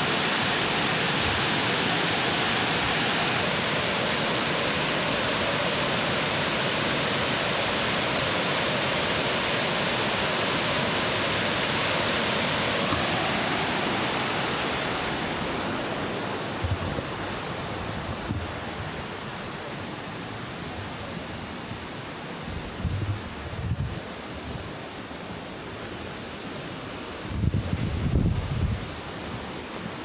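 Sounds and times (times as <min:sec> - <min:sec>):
waterfall rushing: 0:00.0 - 0:27.4, 0:28.0 - 0:30.0.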